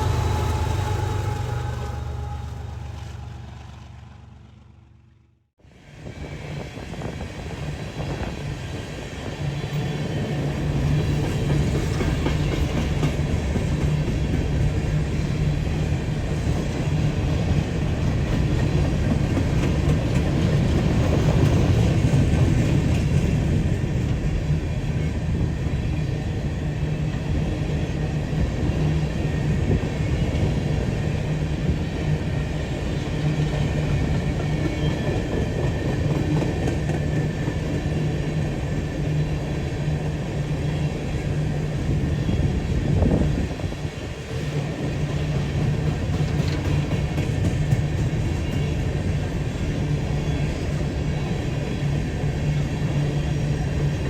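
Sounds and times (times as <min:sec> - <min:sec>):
freight train rumbling: 0:00.0 - 0:54.0.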